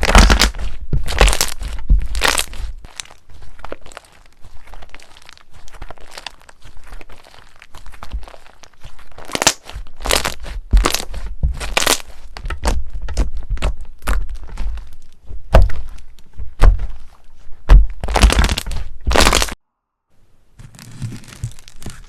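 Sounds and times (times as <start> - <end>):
crunchy slime crackling: 0.0 - 19.6, 20.6 - 22.0.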